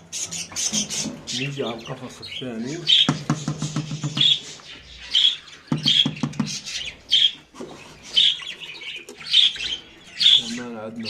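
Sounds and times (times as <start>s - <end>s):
budgerigars squawking: 0.0s - 11.0s.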